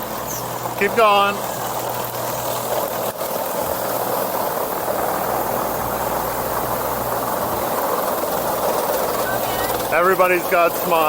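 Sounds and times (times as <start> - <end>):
coaster cars rushing and rumbling: 0.0 - 11.0
low machinery hum: 0.0 - 11.0.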